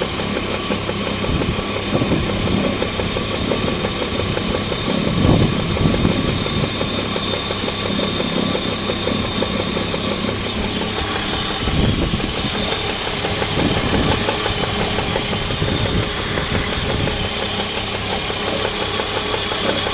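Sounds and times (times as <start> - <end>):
car engine idling with rhythmic knock: 0.0 - 19.9.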